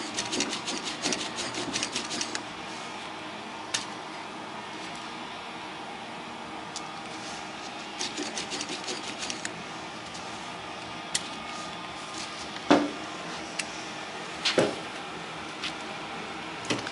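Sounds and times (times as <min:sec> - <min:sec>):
steady background hum: 0:00.0 - 0:16.9.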